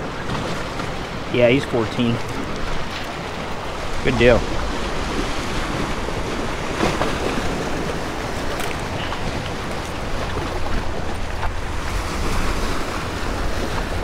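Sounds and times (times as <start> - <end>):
waves washing against rocks: 0.0 - 14.0
wind buffeting microphone: 2.0 - 14.0.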